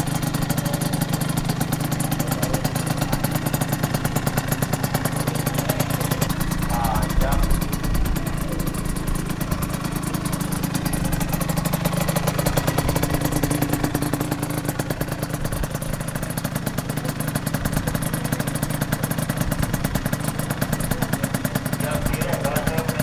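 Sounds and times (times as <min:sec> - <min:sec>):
two-stroke motorcycle engine running: 0:00.0 - 0:23.0.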